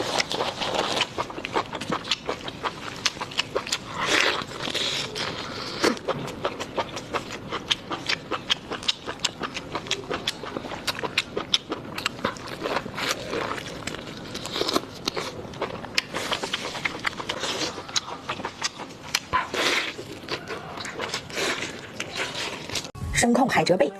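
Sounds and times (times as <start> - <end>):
person chewing crunchy food: 0.0 - 23.0.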